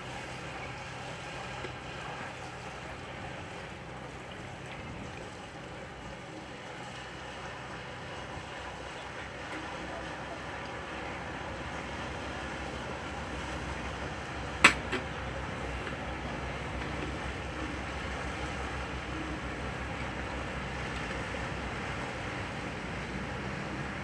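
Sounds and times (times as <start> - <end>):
boat traffic rumble and hiss: 0.0 - 24.0.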